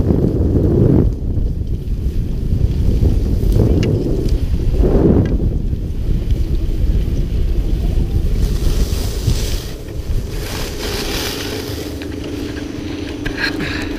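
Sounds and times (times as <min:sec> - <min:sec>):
skis scraping over snow: 0:00.0 - 0:13.9
steady low hum: 0:00.0 - 0:13.9
wind buffeting microphone: 0:00.0 - 0:13.9.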